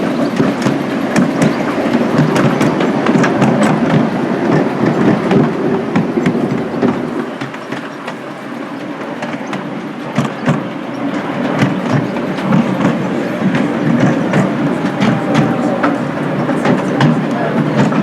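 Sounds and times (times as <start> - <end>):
train rumble: 0.0 - 18.0
train wheels clicking on rail joints: 0.0 - 18.0.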